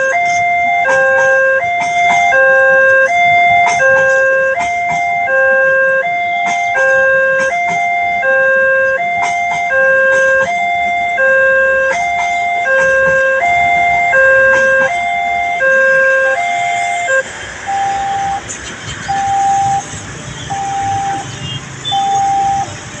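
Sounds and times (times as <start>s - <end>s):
level crossing alarm: 0.0s - 23.0s
rushing noise: 0.0s - 23.0s.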